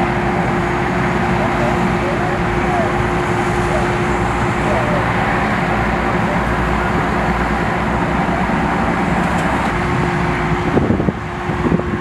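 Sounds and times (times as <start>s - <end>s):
voices: 0.0s - 10.8s
vehicle engine hum: 0.0s - 12.0s.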